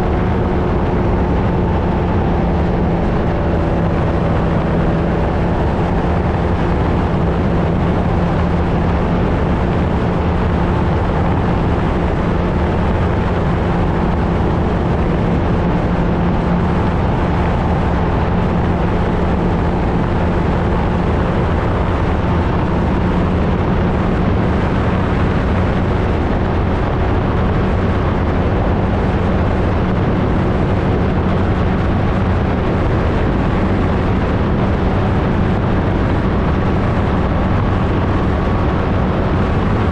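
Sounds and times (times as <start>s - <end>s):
ultralight aircraft engine and propeller: 0.0s - 39.9s
wind rumble: 0.0s - 39.9s.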